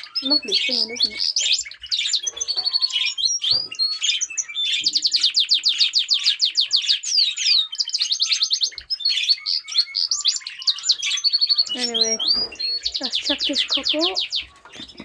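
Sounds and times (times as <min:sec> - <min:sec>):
cage birds chirping: 0:00.0 - 0:15.0
canary singing in trills: 0:00.0 - 0:15.0.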